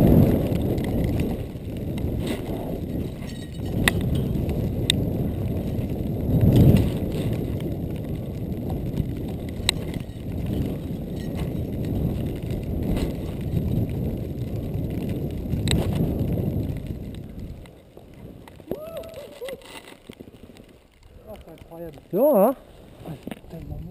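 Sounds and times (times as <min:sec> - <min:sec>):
wind rumbling on microphone: 0:00.0 - 0:23.9.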